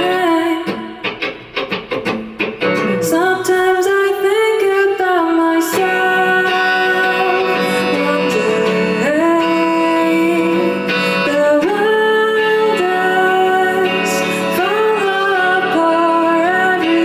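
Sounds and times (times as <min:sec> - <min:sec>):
person singing long notes: 0:02.9 - 0:17.0.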